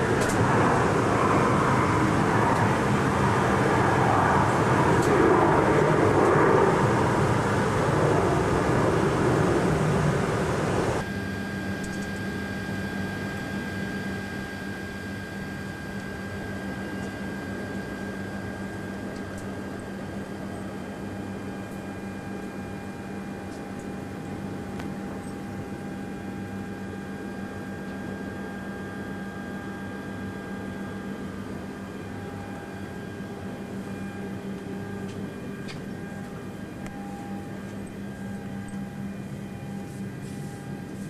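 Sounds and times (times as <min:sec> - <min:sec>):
steady hum with high tone: 0:00.0 - 0:41.0.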